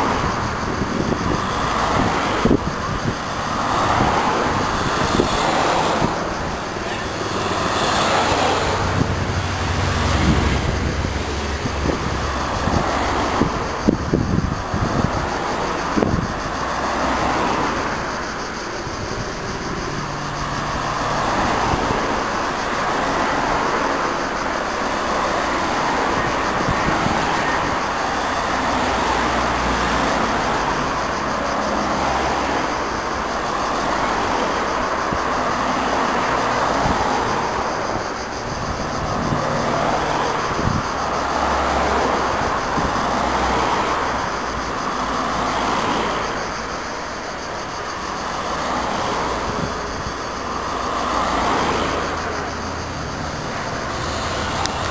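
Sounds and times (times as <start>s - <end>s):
cars driving past: 0.0s - 54.9s.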